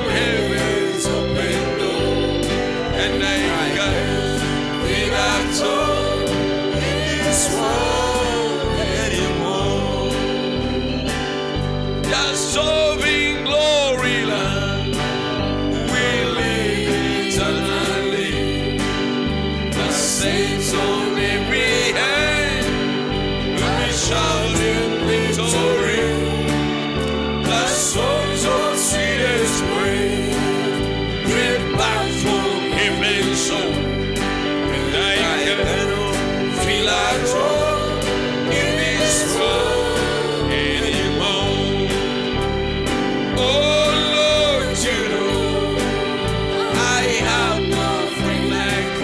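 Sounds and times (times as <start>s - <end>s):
band playing: 0.0s - 49.0s
bass: 0.0s - 49.0s
melodic lead line: 0.0s - 49.0s
voices singing gospel: 0.0s - 49.0s.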